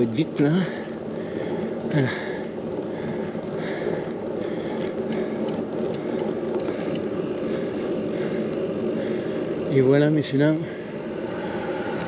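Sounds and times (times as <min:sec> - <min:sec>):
bicycle road noise rumble: 0:00.0 - 0:12.0.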